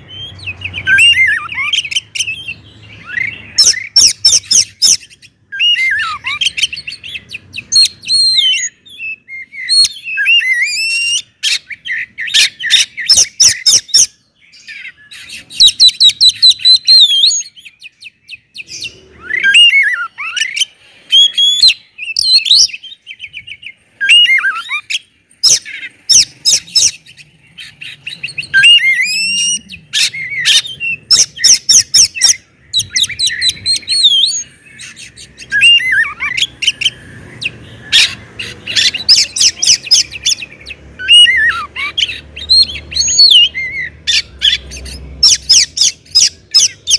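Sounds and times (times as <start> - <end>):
bird singing whistled phrases: 0.0 - 46.9.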